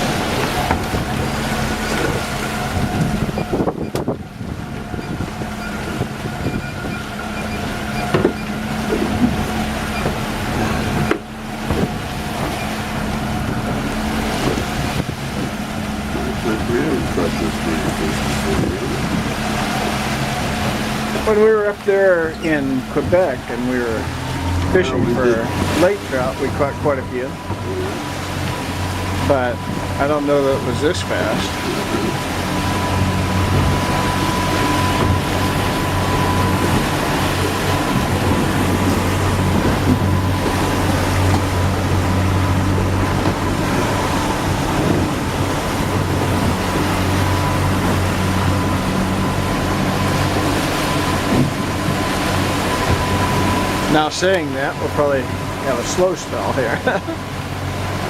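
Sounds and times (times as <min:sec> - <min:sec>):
boat engine running: 0:00.0 - 0:58.0
water noise: 0:00.0 - 0:58.0
wind: 0:00.0 - 0:58.0
thin steady whine: 0:00.1 - 0:58.0.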